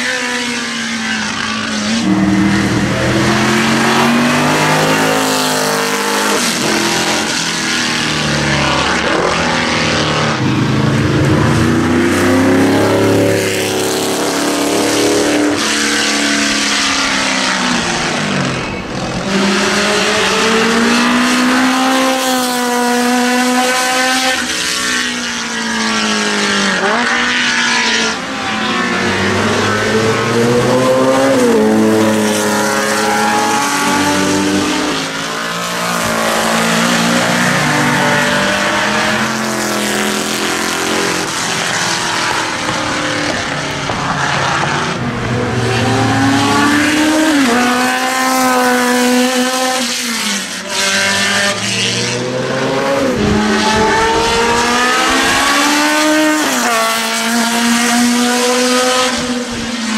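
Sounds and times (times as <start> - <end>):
racing cars passing: 0.0 - 59.9.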